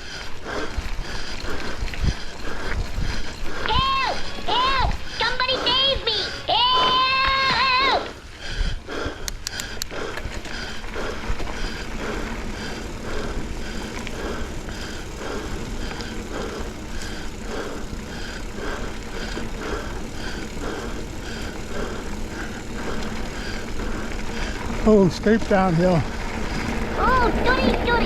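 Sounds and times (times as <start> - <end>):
person panting hard: 0.0 - 28.0.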